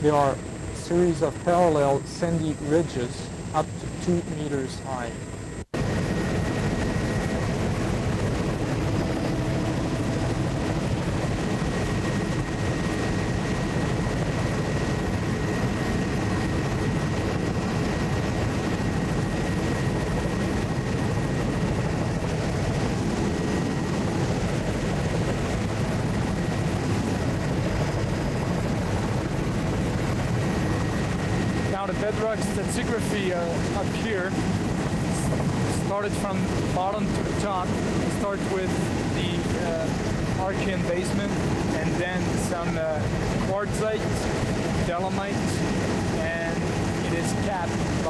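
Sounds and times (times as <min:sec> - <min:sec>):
aircraft engine drone: 0:00.0 - 0:48.0
faint high whine: 0:00.0 - 0:48.0.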